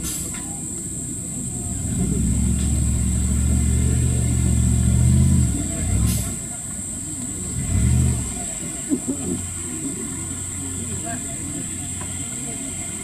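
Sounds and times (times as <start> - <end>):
off-road engine under load: 0.0 - 13.0.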